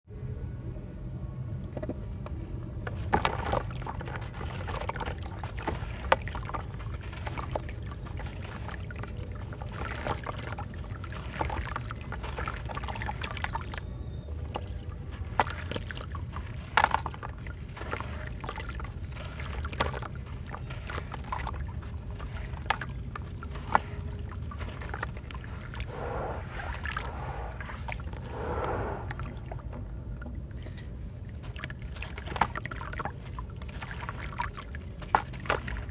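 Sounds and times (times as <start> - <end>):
steady low hum: 0.1 - 17.8, 21.4 - 33.6.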